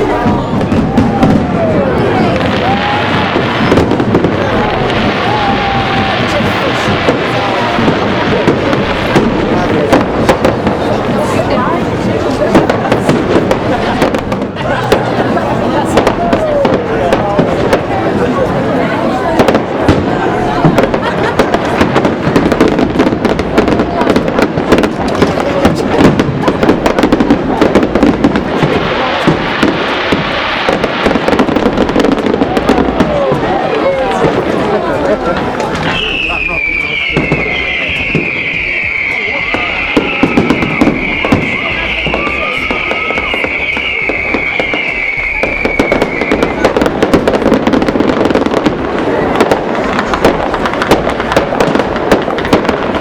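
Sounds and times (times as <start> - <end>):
fireworks crackling and banging: 0.0 - 53.0.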